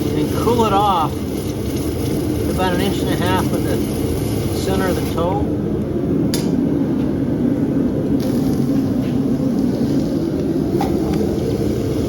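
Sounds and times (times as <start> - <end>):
forge roaring: 0.0 - 12.0.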